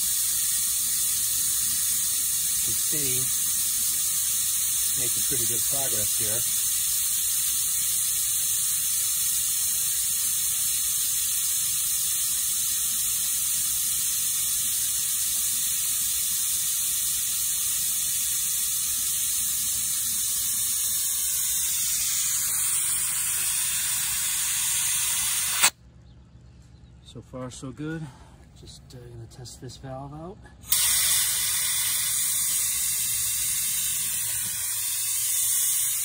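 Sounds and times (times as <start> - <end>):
compressed air hissing: 0.0 - 25.8, 30.6 - 36.0.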